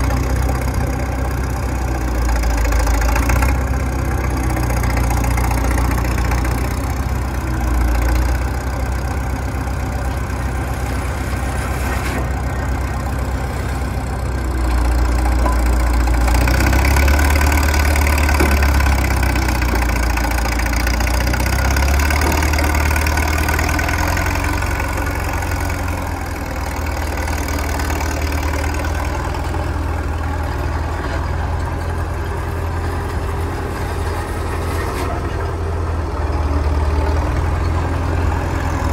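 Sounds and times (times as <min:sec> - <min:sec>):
cable shovel engine running: 0:00.0 - 0:38.9.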